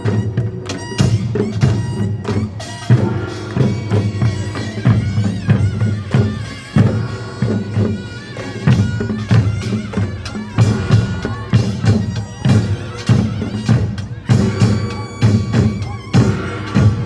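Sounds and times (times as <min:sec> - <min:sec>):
drums and gongs rhythm: 0:00.0 - 0:17.0
reedy shawm melody: 0:00.0 - 0:17.0.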